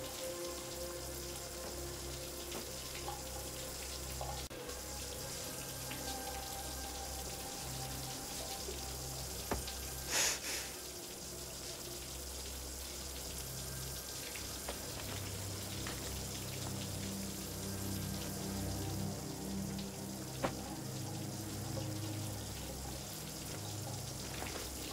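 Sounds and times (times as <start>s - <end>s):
water running from tap: 0.0s - 24.9s.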